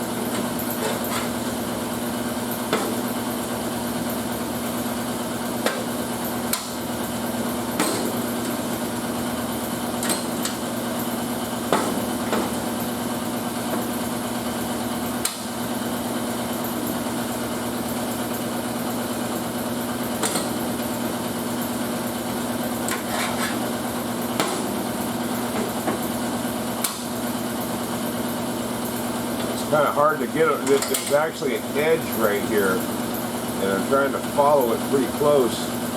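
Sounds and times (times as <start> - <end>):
mechanical hum of shop equipment: 0.0 - 35.9.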